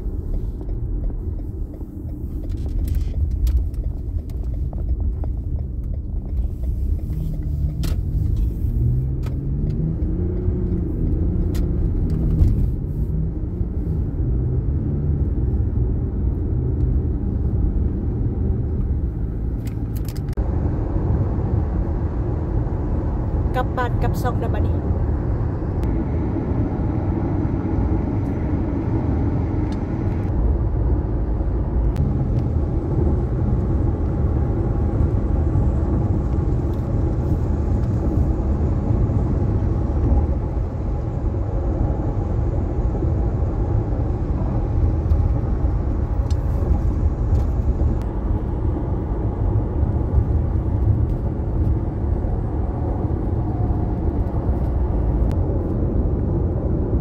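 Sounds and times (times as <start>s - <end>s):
car road noise rumble: 0.0s - 57.0s.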